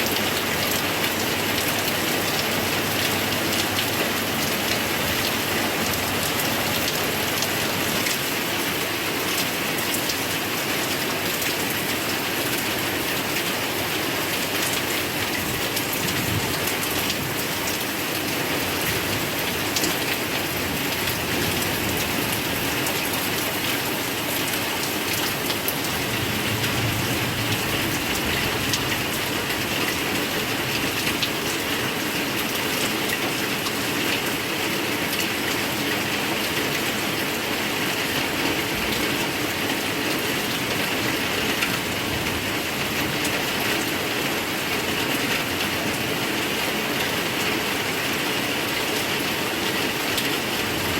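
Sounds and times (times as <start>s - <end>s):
heavy rain pouring: 0.0s - 50.9s
raindrops pattering on surfaces: 0.0s - 50.9s.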